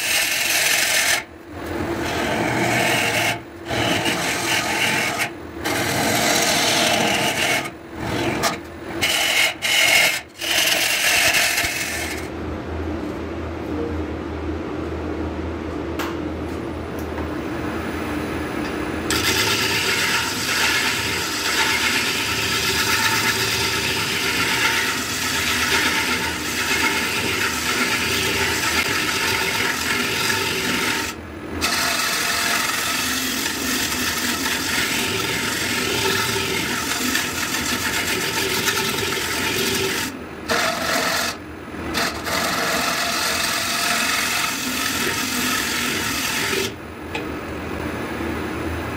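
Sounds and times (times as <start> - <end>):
turning tool cutting wood: 0.0 - 1.3, 2.0 - 12.3, 19.1 - 46.8
lathe hum: 0.0 - 12.3, 19.0 - 46.8.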